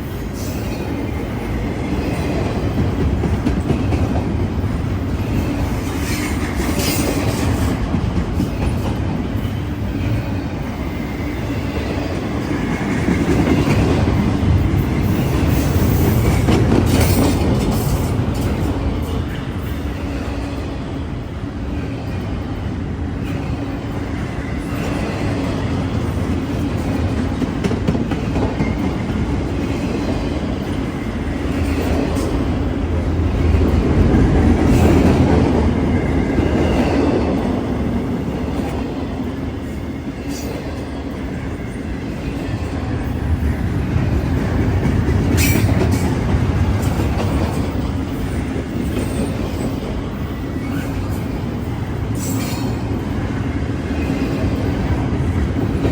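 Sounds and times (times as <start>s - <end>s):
train wheels clacking on rails: 0.0s - 55.9s.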